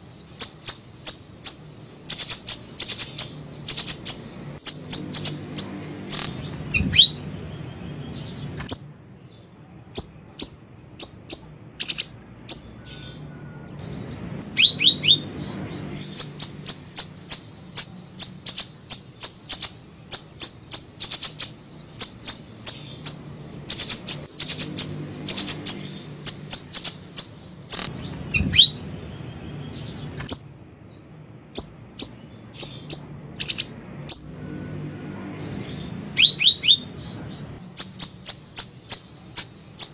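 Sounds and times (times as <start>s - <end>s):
recorded birdsong high chirps: 0.0s - 39.9s.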